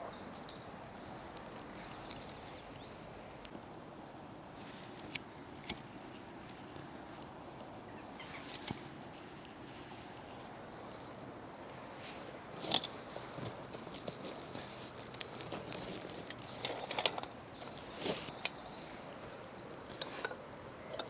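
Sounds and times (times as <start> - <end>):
songbird chirping: 0.0 - 8.6, 12.0 - 21.0
steady outdoor hiss: 0.0 - 21.0.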